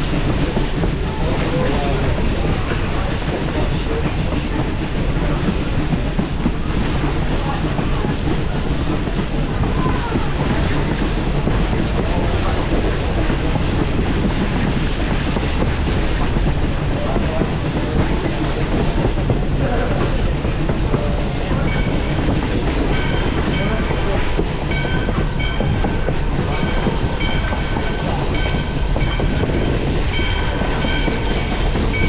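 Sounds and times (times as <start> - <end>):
train rumble and rattle: 0.0 - 32.0.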